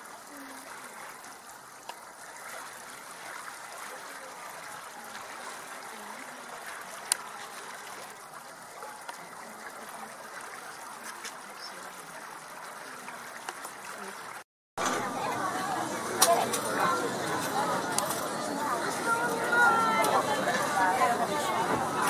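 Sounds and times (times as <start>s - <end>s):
faint distant voices: 0.0s - 22.0s.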